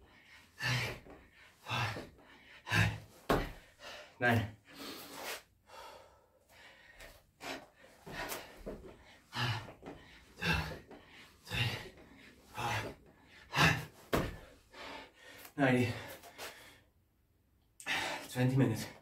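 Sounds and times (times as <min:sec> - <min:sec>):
man breathing hard: 0:00.0 - 0:17.1, 0:17.8 - 0:18.3.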